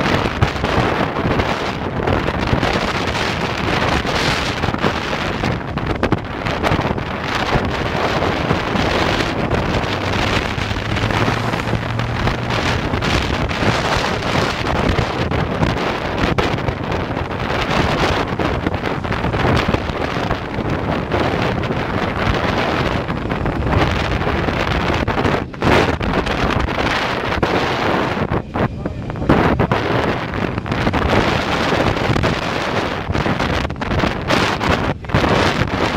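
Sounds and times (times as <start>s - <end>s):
road noise: 0.0s - 35.9s
wind buffeting microphone: 0.0s - 35.9s
scooter engine: 3.2s - 33.1s.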